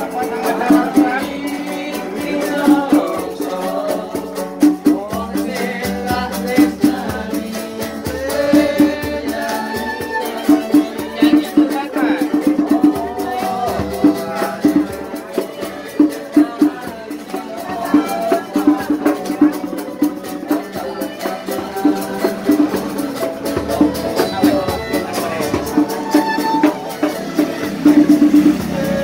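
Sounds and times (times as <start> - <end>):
drums beating: 0.0 - 29.0.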